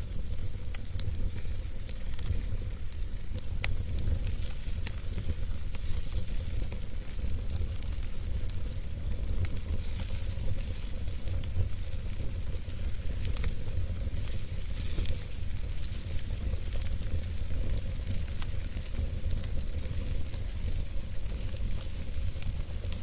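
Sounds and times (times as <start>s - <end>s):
fire crackles and pops: 0.0s - 23.0s
wood fire rumbling and hissing: 0.0s - 23.0s.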